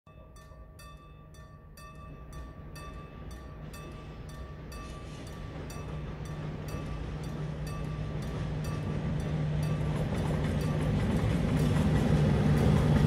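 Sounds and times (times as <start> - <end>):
level crossing warning bell: 0.1 - 13.0
low hum of approaching train: 0.1 - 13.0.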